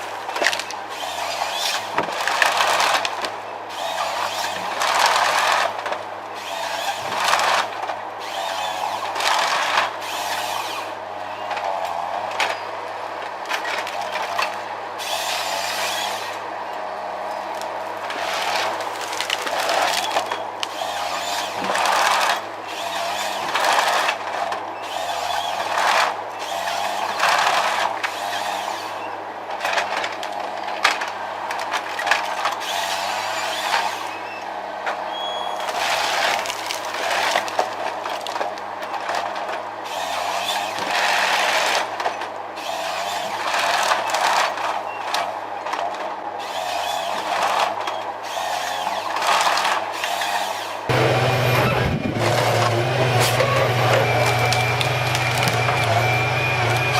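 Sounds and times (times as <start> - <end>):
heavy machinery hum: 0.0 - 56.9.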